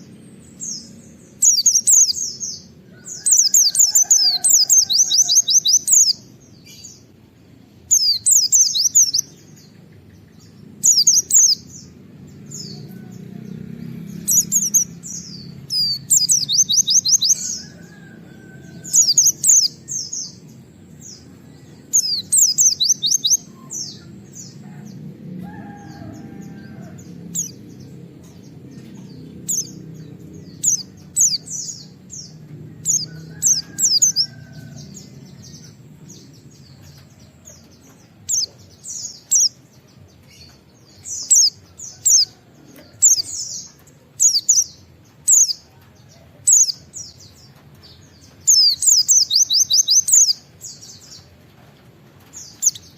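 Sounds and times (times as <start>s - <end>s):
low background noise: 0.0s - 52.9s.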